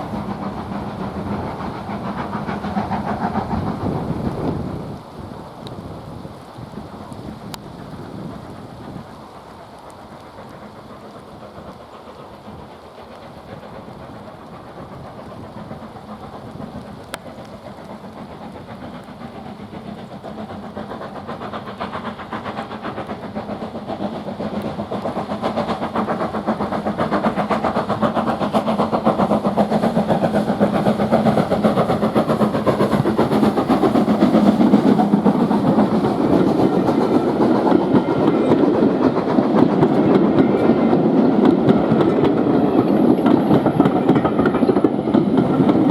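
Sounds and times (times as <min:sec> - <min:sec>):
steam train wheels rattling: 0:00.0 - 0:45.9.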